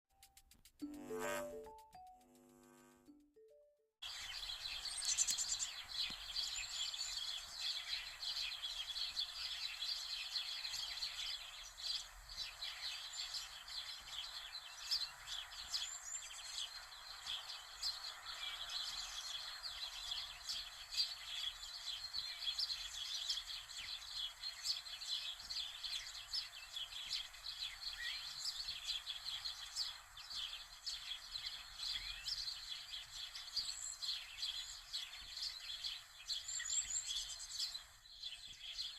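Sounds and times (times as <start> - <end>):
birds chirping in chorus: 4.0 - 38.9.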